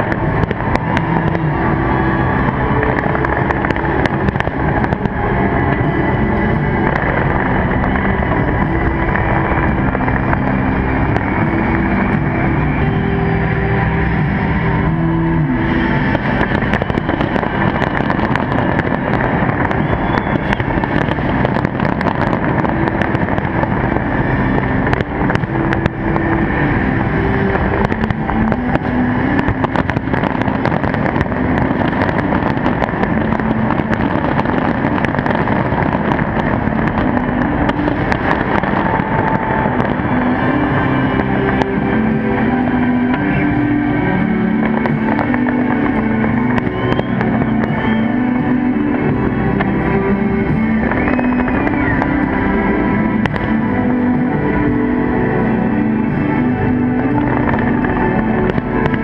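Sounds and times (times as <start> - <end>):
fireworks bangs and crackles: 0.0 - 59.0
held musical notes: 0.0 - 59.0.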